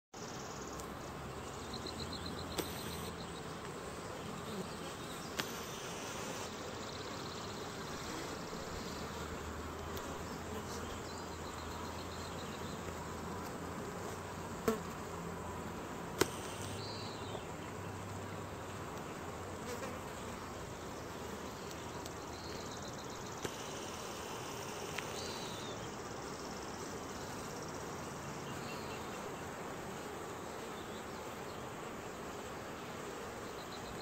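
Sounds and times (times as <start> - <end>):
honeybees buzzing: 0.2 - 34.0.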